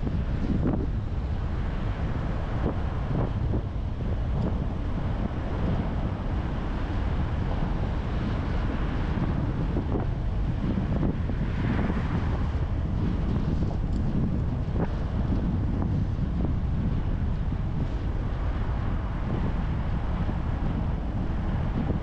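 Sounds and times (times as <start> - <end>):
car road noise rumble: 0.0 - 22.0
wind buffeting microphone: 0.0 - 22.0.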